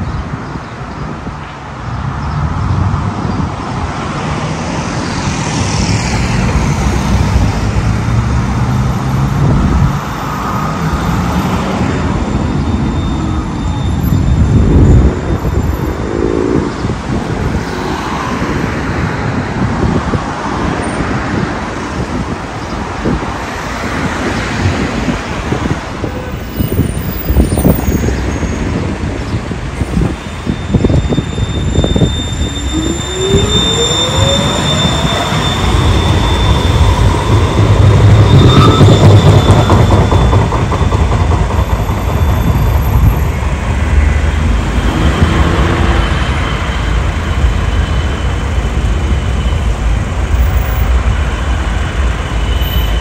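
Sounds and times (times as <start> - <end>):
vehicles passing: 0.0 - 53.0.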